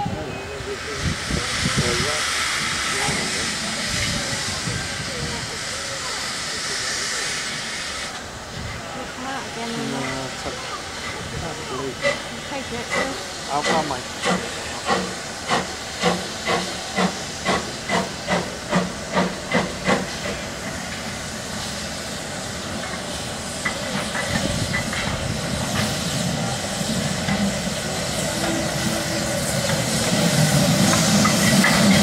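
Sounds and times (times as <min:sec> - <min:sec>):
steam locomotive exhaust beats: 0:00.0 - 0:08.8, 0:09.5 - 0:32.0
steam hiss: 0:00.0 - 0:32.0.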